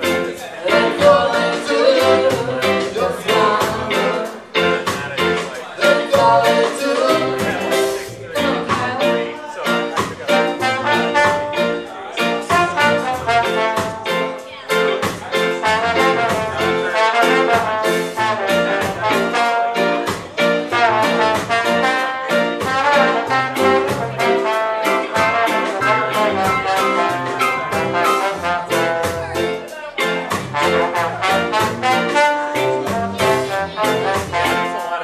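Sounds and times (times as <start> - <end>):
trombone melody: 0.0 - 9.3, 9.9 - 35.0
ska band playing: 0.0 - 35.0.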